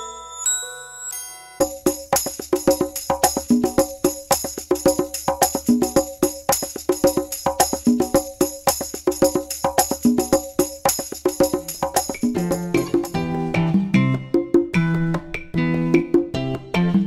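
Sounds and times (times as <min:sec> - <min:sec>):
upbeat percussion music: 0:01.1 - 0:17.0.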